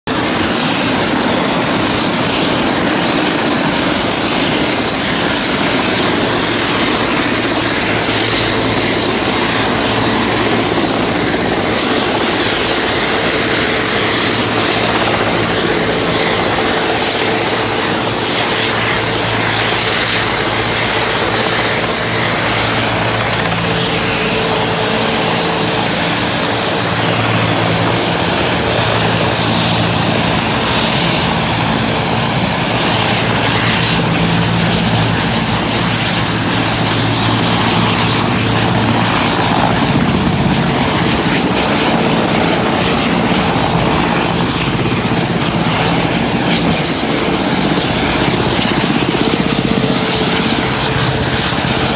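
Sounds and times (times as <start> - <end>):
helicopter rotor and turbine: 0.0 - 51.9.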